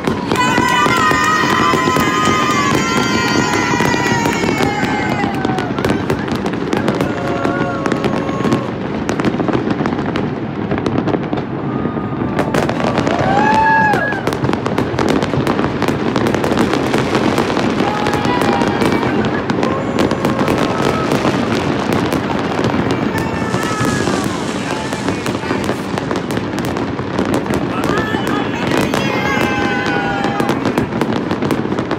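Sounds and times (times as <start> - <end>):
fireworks popping and crackling: 0.0 - 31.9.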